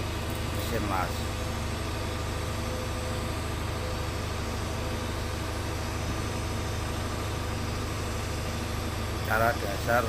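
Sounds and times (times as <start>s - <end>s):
welding arc humming and hissing: 0.0s - 10.0s.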